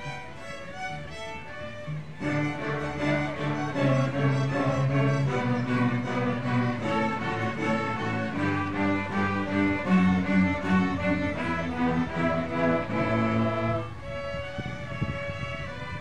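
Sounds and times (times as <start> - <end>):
lower strings holding bass notes: 0.0 - 16.0
violins: 0.0 - 16.0.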